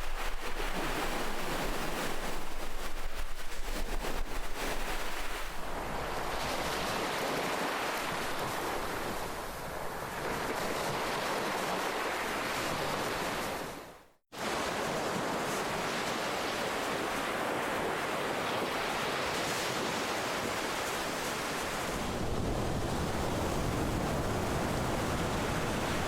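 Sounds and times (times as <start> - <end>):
ocean waves washing: 0.0 - 26.0.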